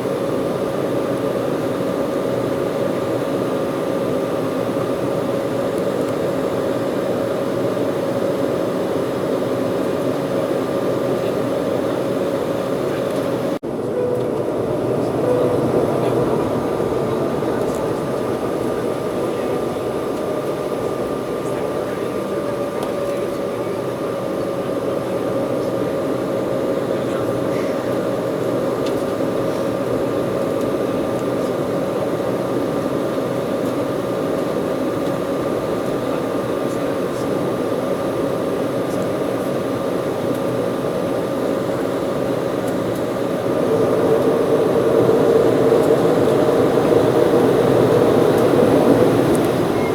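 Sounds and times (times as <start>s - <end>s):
jet engine and airflow rush: 0.0s - 49.9s
constant whine: 0.2s - 39.6s, 40.3s - 49.9s.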